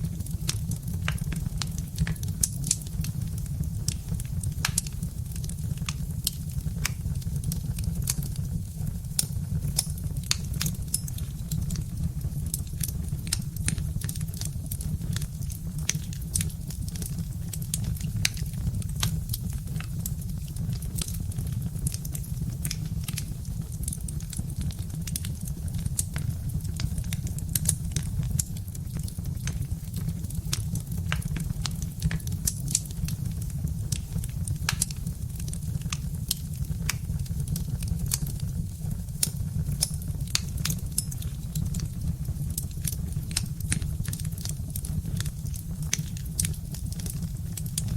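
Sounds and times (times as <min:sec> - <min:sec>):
log fire crackling: 0:00.0 - 0:47.9
sharp pops and snaps: 0:00.2 - 0:47.9.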